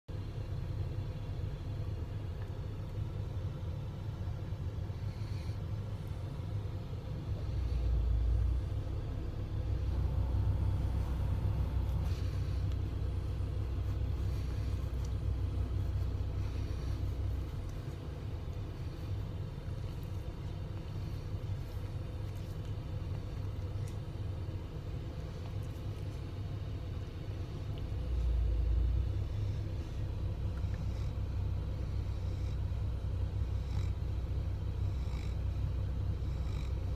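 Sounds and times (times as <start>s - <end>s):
air conditioning: 0.1s - 36.9s
car engine idling: 0.1s - 36.9s.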